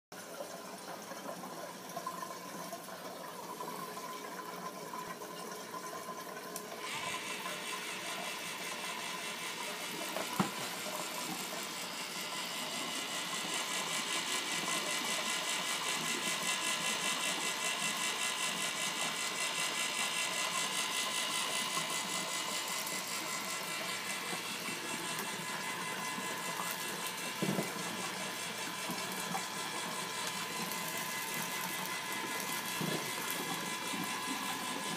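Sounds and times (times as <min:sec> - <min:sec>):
motor turning auger whirring: 0:06.7 - 0:34.9.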